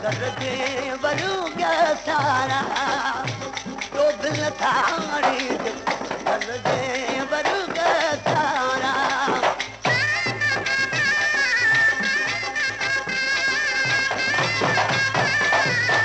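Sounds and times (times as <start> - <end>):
folk song melody: 0.0 - 16.0.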